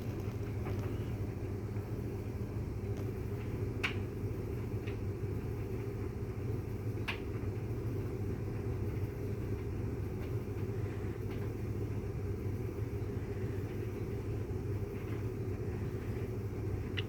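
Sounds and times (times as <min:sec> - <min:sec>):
dryer and washing machine rumbling: 0:00.0 - 0:17.0.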